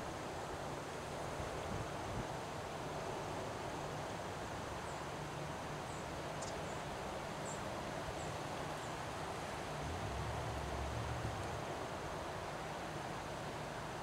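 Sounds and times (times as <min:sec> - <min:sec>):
wind rushing through trees: 0:00.0 - 0:14.0.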